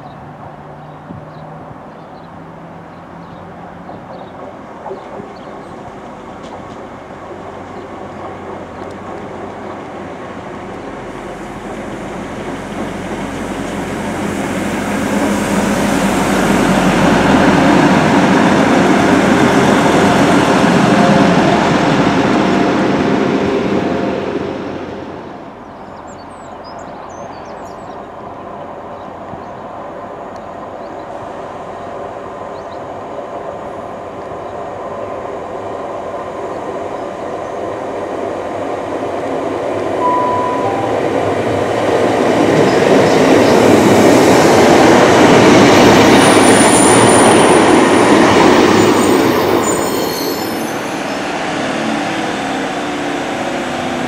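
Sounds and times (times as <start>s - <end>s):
diesel train passing: 0.0s - 54.0s
distant diesel train running: 1.7s - 54.0s.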